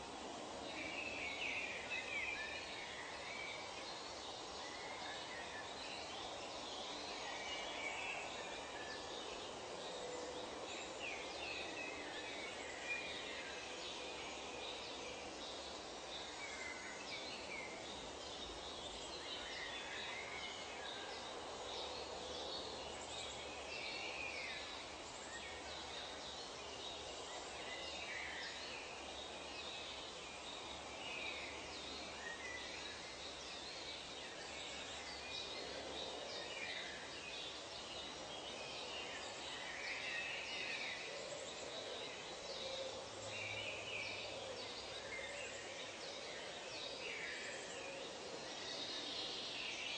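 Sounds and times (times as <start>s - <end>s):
steady background hiss: 0.0s - 49.9s.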